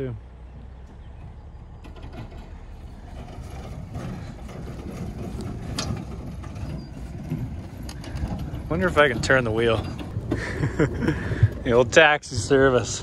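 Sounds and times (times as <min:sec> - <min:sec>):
low vehicle rumble: 0:00.0 - 0:13.0
van body and chain rattling: 0:00.2 - 0:13.0.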